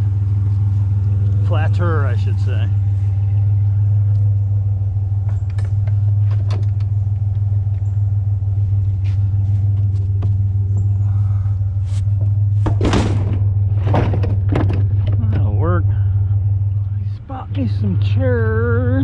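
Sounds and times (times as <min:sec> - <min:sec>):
road noise: 0:00.0 - 0:19.0
truck engine drone: 0:00.0 - 0:19.0.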